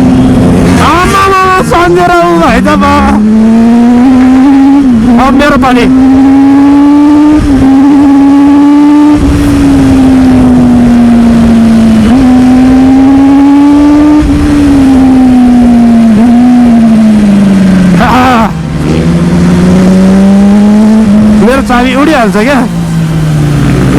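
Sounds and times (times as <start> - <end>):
motorcycle engine at high revs: 0.0 - 23.9.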